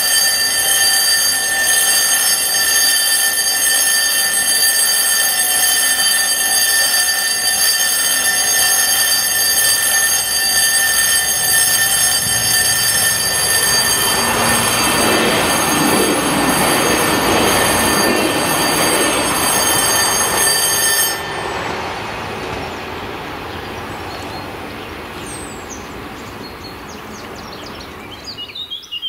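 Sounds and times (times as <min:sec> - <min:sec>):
level crossing bell ringing: 0:00.0 - 0:28.3
approaching diesel railcar: 0:00.0 - 0:29.0.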